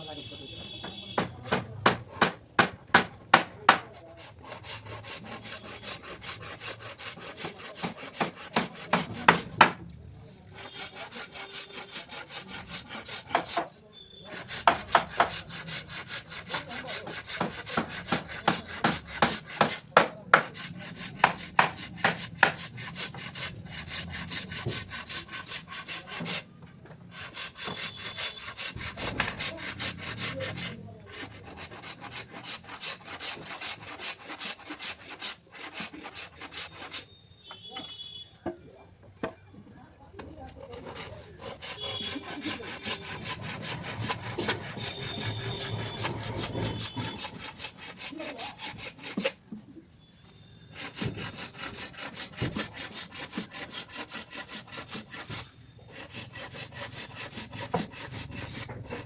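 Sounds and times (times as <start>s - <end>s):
hand saw cutting wood: 0.1s - 37.1s, 40.2s - 49.7s, 50.7s - 59.0s.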